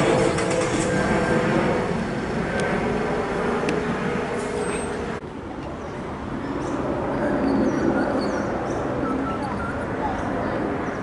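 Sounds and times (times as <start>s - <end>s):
jet engines rumbling overhead: 0.0s - 11.0s
smaller jet rumbling: 0.0s - 11.0s.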